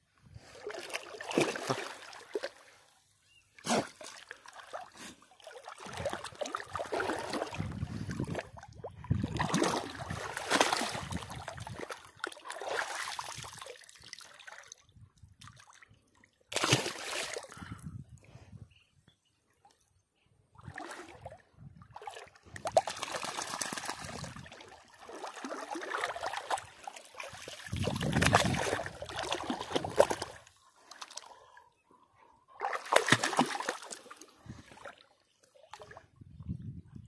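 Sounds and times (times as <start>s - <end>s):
muddy water splashing: 0.3s - 2.9s, 3.6s - 17.8s, 20.6s - 31.6s, 32.5s - 36.0s.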